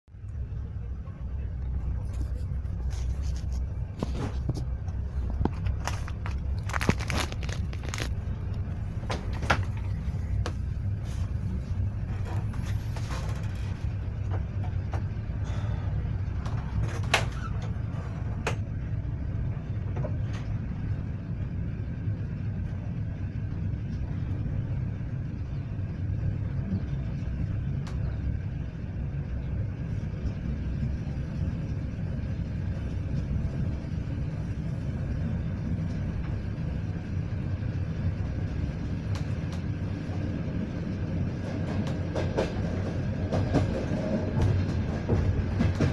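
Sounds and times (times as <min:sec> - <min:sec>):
train coach low rumble: 0:00.1 - 0:45.9.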